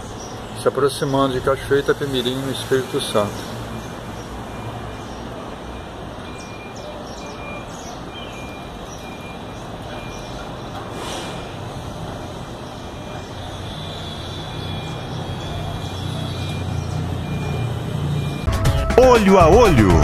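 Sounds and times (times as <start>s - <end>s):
distant traffic hum: 0.0s - 20.0s.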